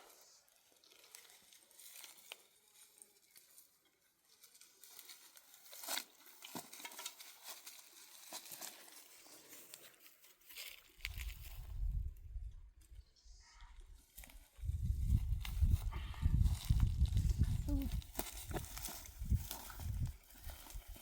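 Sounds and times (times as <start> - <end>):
rustling and crackling: 0.0 - 12.2, 13.8 - 21.0.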